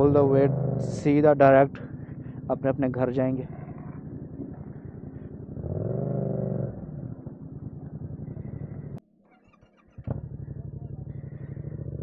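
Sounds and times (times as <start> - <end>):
motorcycle engine revving: 0.0 - 9.0, 9.6 - 12.0.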